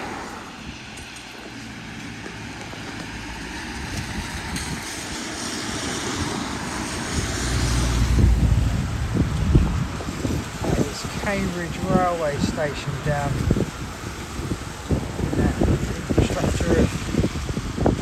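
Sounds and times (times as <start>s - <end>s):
street traffic hiss: 0.0s - 18.0s
wind buffeting microphone: 0.0s - 18.0s.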